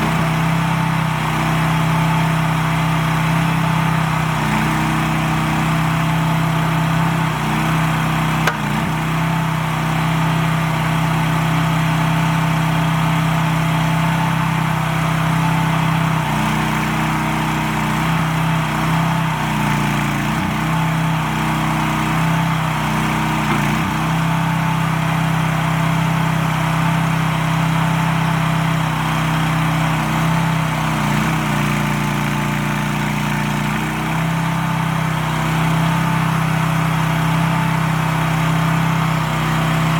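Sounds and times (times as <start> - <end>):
mini excavator engine running: 0.0 - 39.9.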